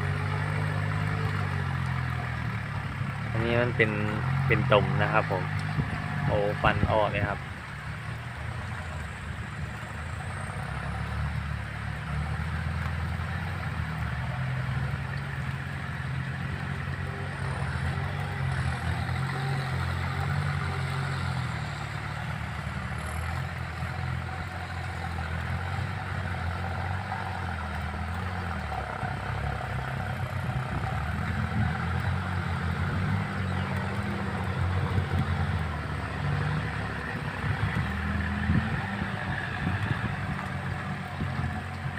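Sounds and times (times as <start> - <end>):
tiller churning mud: 0.0 - 41.9
tractor diesel engine running: 0.0 - 41.9.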